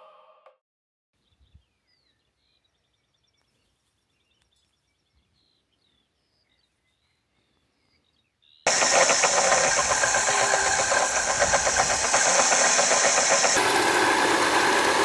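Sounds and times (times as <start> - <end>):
faint birds chirping: 1.2 - 13.6.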